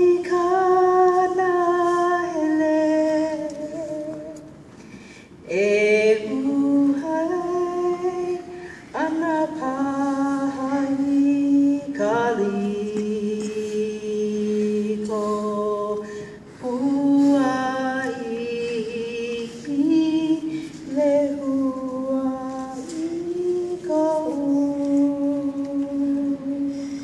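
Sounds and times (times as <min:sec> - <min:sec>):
person singing unaccompanied: 0:00.0 - 0:04.5, 0:05.4 - 0:27.0.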